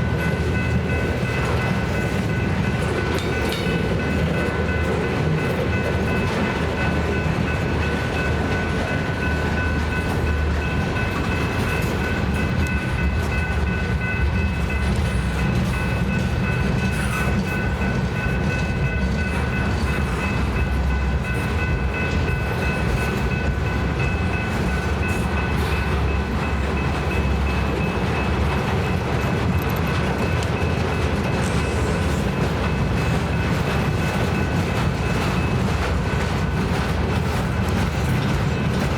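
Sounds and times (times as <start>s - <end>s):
railcars clickety-clack: 0.0s - 38.9s
train rumbling past: 0.0s - 38.9s.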